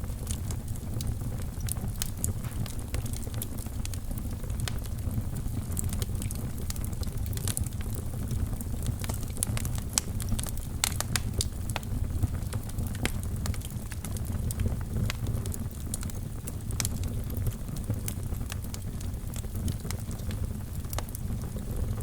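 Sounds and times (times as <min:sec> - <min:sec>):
fire flames rumbling: 0:00.0 - 0:22.0
fire pops and snaps: 0:00.1 - 0:22.0.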